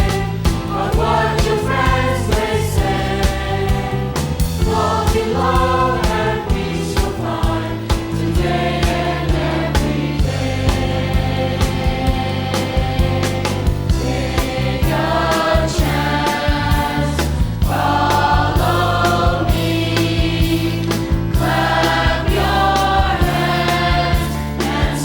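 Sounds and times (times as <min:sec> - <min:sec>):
steady drum beat: 0:00.0 - 0:25.0
voices singing gospel: 0:00.0 - 0:25.0.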